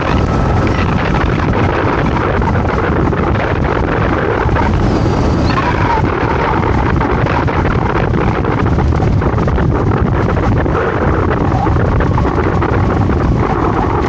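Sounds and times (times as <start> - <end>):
scooter engine running: 0.0 - 14.0
wind buffeting microphone: 0.0 - 14.0.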